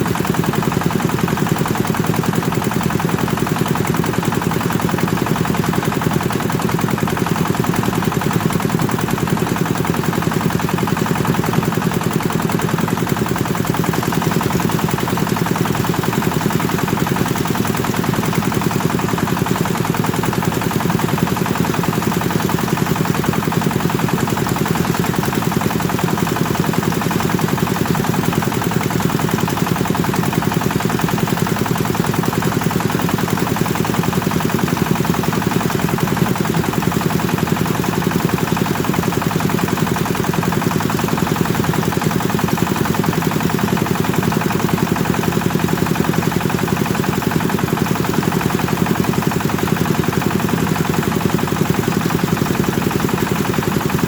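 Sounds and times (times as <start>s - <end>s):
engine chugging: 0.0s - 54.0s.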